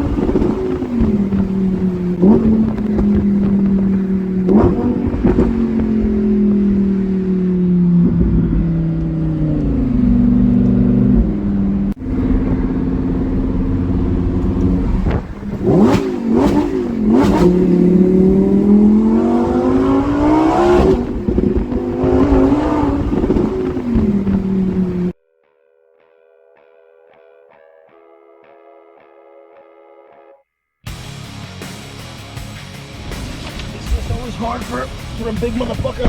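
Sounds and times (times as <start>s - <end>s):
sports car engine revving: 0.0s - 25.2s, 31.6s - 36.0s.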